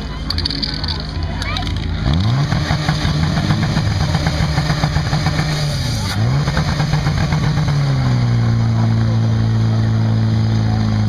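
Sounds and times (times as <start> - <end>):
fire pump engine revving: 0.3 - 11.0.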